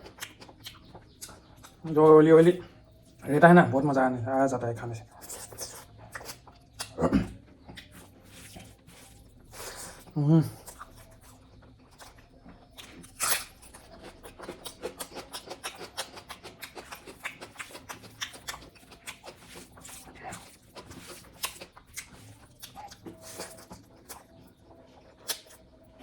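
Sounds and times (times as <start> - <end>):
chewing and lip-smacking: 0.0 - 3.2, 5.0 - 26.0.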